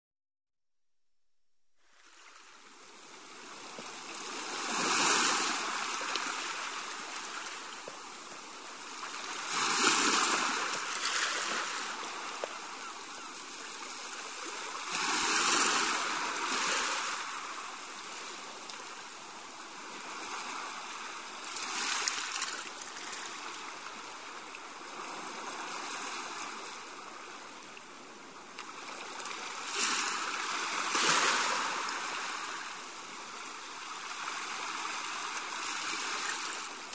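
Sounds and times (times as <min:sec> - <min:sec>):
small waves washing up shore: 0:01.8 - 0:36.9.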